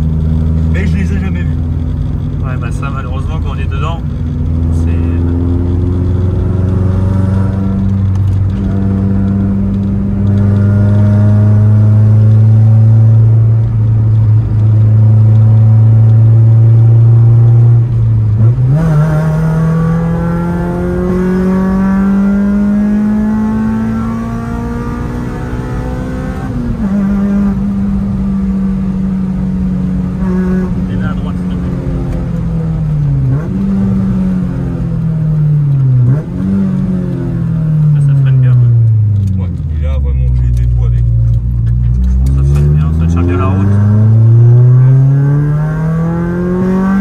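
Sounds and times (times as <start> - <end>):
car engine revving in cabin: 0.0 - 47.0.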